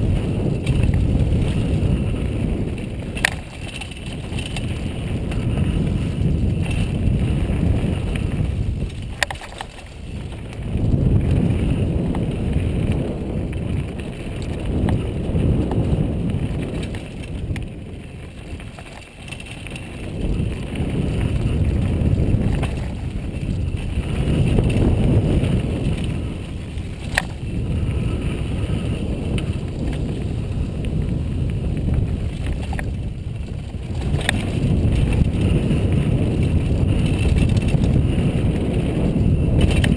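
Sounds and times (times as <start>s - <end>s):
sharp clacks from bike: 0.0s - 39.9s
tyres rumbling over dirt trail: 0.0s - 39.9s
wind buffeting microphone: 0.0s - 39.9s.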